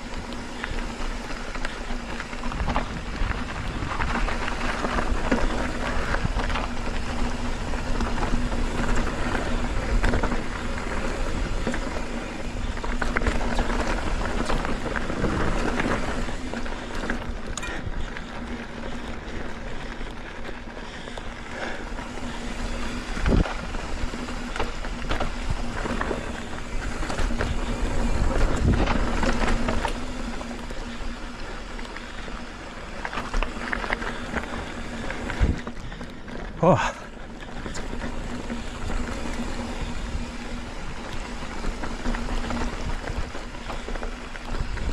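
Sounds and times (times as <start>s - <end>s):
bike rattling and knocking: 0.0s - 44.9s
tyre and wind noise: 0.0s - 44.9s.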